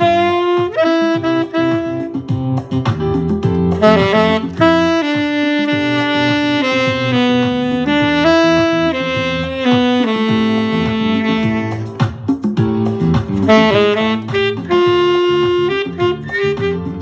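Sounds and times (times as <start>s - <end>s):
alto saxophone melody: 0.0s - 2.7s, 3.6s - 12.2s, 12.9s - 17.0s
low accompaniment with light beat: 0.0s - 17.0s.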